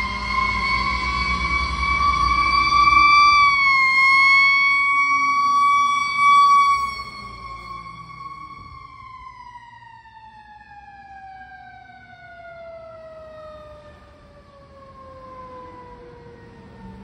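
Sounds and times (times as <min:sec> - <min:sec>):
fire engine siren winding down: 0:00.0 - 0:17.0
low road noise: 0:00.0 - 0:17.0.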